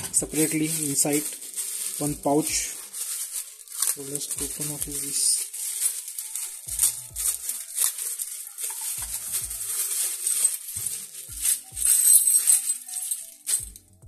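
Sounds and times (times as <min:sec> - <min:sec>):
plastic pouch crinkling: 0:00.0 - 0:13.9
small parts clinking and rattling: 0:00.0 - 0:13.9.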